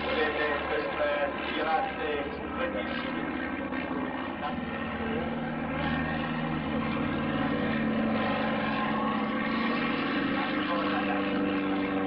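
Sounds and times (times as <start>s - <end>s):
propeller aircraft engine: 0.0s - 12.0s.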